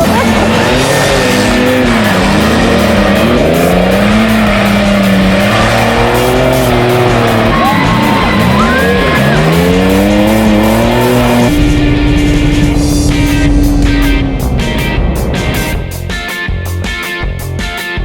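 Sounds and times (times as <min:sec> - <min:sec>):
tire squeal: 0:00.0 - 0:15.8
race car engines revving: 0:00.0 - 0:16.3.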